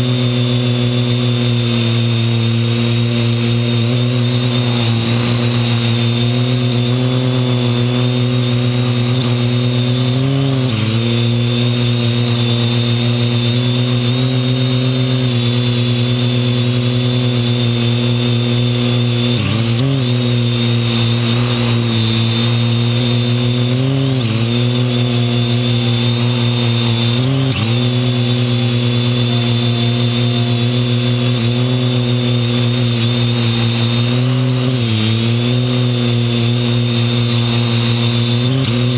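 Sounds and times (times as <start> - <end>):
drone propellers whining: 0.0 - 38.9.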